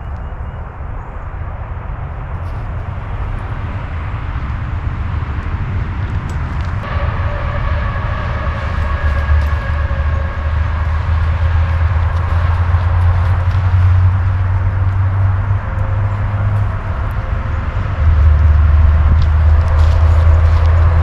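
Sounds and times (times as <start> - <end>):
vehicle rumble approaching: 0.0 - 21.0
steady whine: 1.3 - 21.0.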